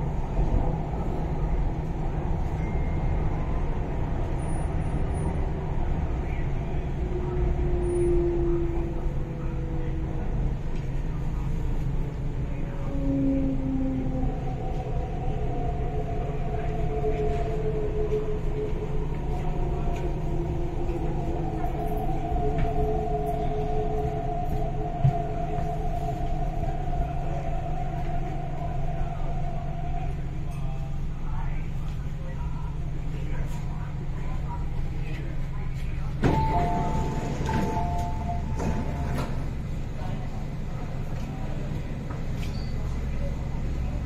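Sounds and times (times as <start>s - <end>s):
train cabin rumble: 0.0s - 44.0s.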